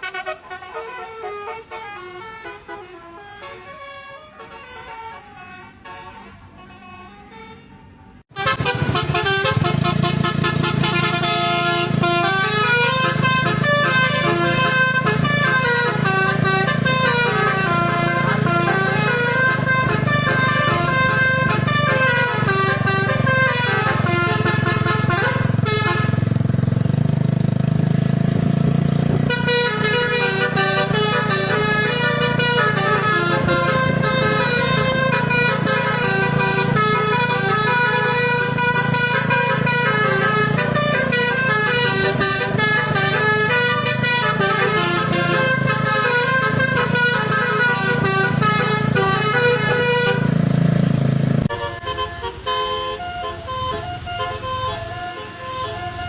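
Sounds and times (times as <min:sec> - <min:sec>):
bus musical air horn: 0:00.0 - 0:56.0.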